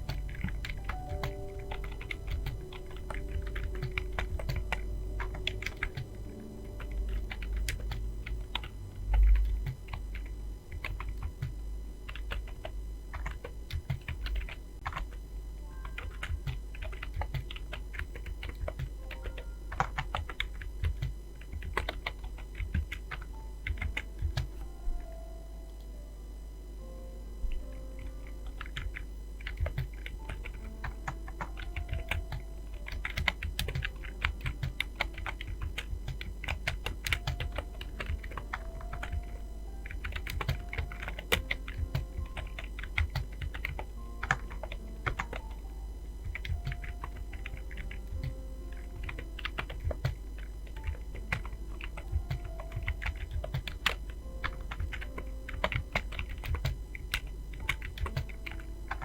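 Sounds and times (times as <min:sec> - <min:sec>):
fast keyboard typing: 0:00.0 - 0:25.1, 0:27.5 - 0:59.0.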